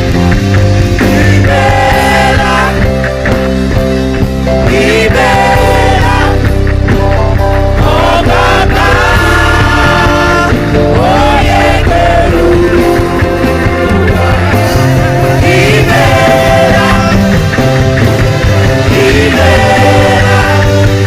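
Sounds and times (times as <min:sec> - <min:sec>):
gospel band playing: 0:00.0 - 0:21.0
lead melody singing: 0:00.0 - 0:21.0.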